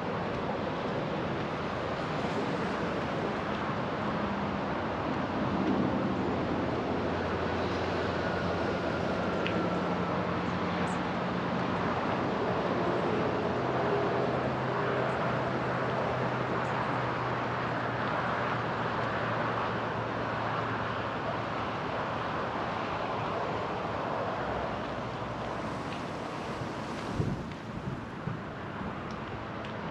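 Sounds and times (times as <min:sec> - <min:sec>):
distant road traffic: 0:00.0 - 0:29.9.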